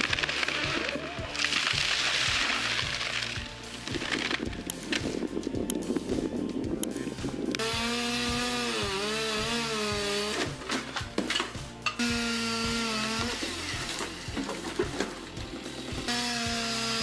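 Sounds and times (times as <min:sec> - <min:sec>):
chainsaw cutting wood: 0:00.0 - 0:06.4, 0:07.2 - 0:17.0
backing track with steady beat: 0:00.0 - 0:17.0.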